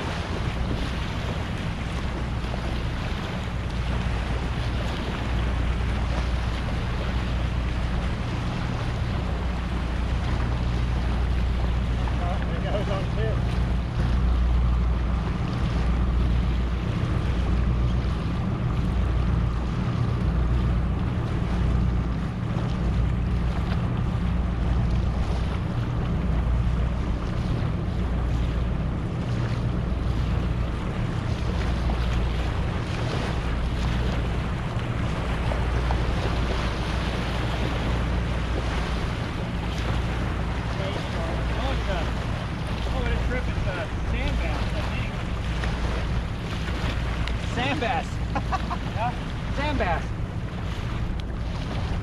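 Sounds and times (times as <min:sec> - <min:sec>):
small waves washing ashore: 0:00.0 - 0:52.0.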